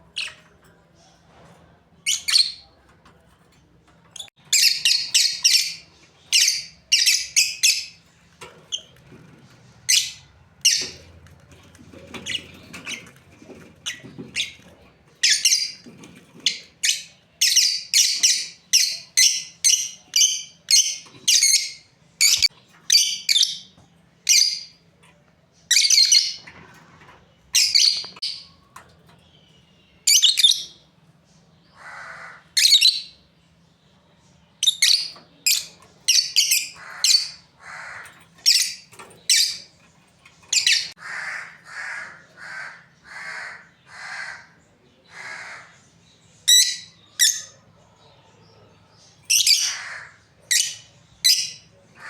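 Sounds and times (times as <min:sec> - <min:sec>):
lovebirds chirping: 0:03.9 - 0:52.0.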